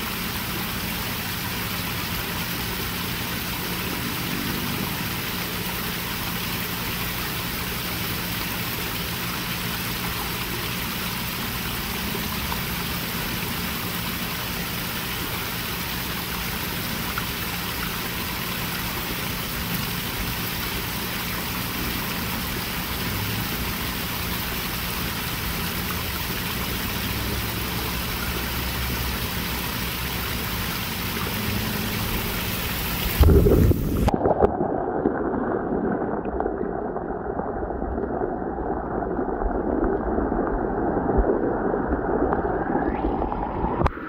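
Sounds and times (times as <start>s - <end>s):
low steady hum: 0.0s - 44.0s
pond waterfall splashing: 0.0s - 44.0s.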